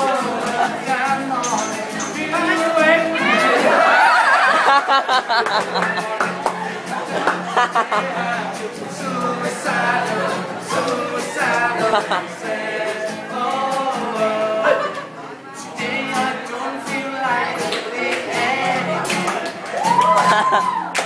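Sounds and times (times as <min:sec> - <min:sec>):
person singing: 0:00.0 - 0:03.9, 0:04.7 - 0:20.8
acoustic guitar strumming: 0:00.0 - 0:20.9.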